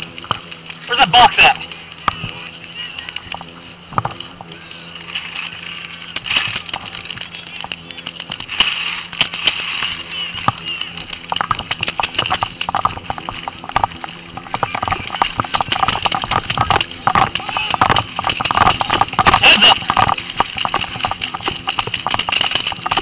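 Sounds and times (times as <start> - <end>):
camera knocking and rustling: 1.9 - 23.0.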